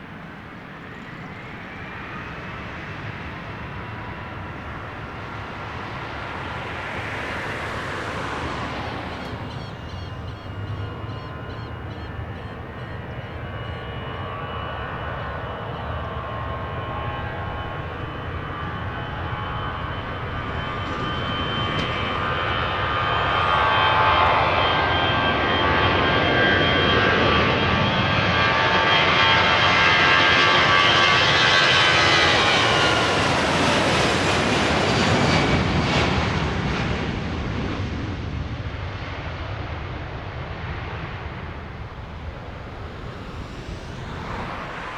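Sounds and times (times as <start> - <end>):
airliner engines whining and rumbling: 0.0 - 44.9.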